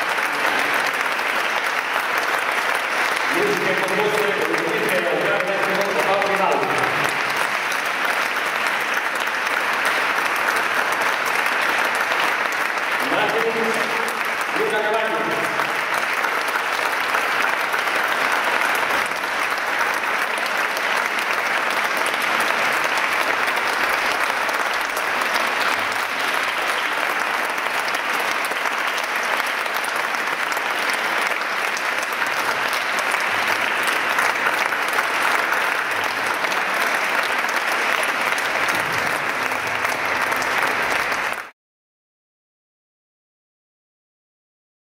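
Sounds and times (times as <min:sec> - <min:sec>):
audience applauding: 0:00.0 - 0:41.6.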